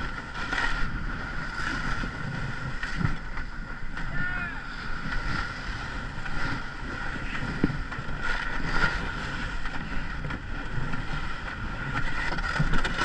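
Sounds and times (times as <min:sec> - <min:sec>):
rush of wind: 0:00.0 - 0:13.0
rushing water: 0:00.0 - 0:13.0.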